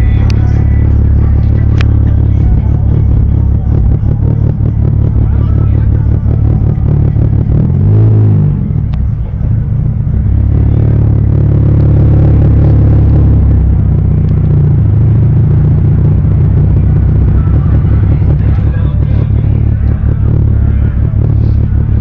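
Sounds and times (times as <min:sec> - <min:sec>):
car engine revving and rumbling: 0:00.0 - 0:22.0.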